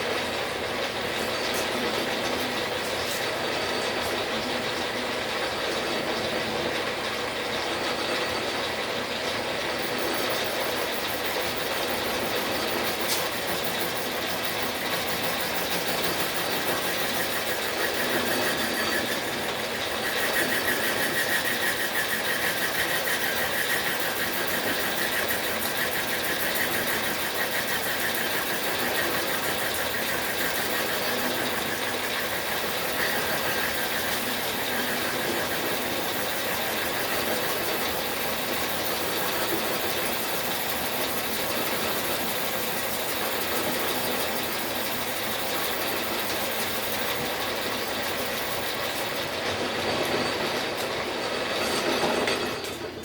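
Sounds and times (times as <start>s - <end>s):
motor-driven cutter running: 8.2s - 51.4s.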